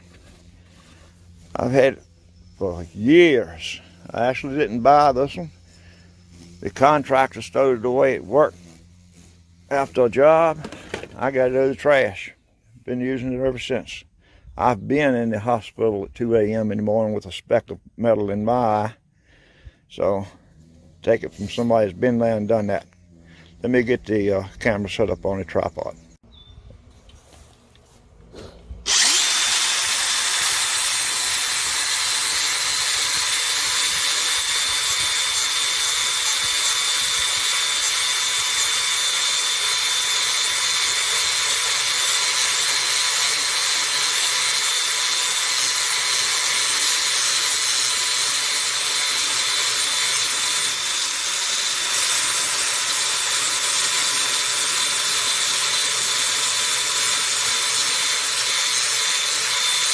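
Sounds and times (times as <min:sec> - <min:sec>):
angle grinder grinding steel: 0:00.0 - 0:12.3, 0:19.8 - 0:26.2, 0:27.8 - 0:59.9.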